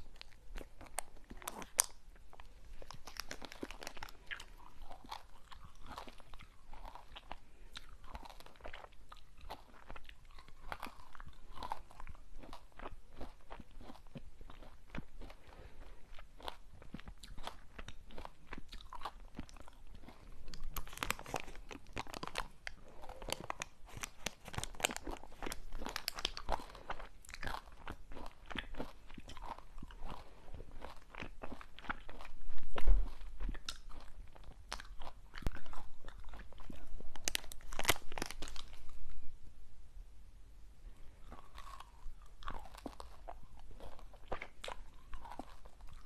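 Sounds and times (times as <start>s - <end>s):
crunching brittle snack: 0.0s - 38.9s, 41.2s - 46.0s.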